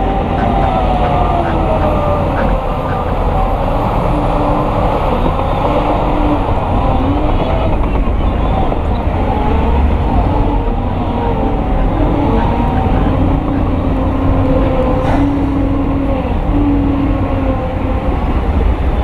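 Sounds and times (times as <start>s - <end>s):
diesel earthmoving machinery rumbling: 0.0s - 19.0s.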